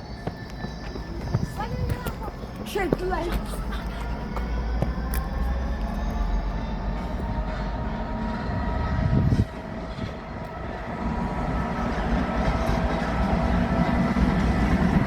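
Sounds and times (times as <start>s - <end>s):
train running hum: 0.0s - 15.0s.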